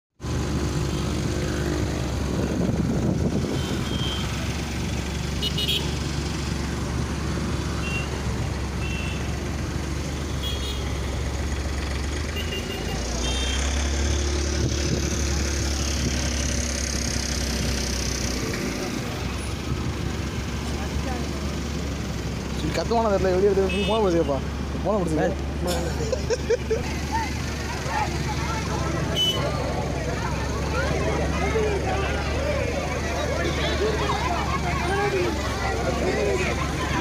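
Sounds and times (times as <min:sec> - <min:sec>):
traffic engines running: 0:00.1 - 0:37.0.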